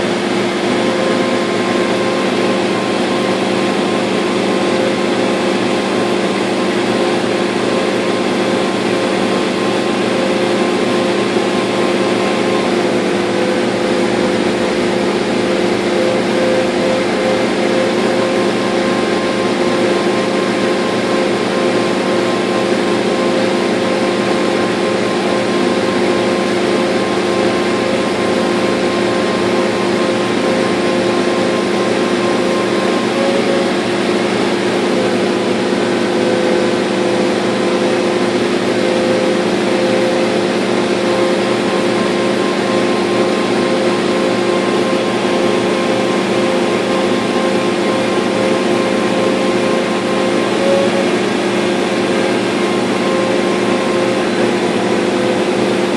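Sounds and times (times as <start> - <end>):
laser cutter humming: 0.0 - 55.9.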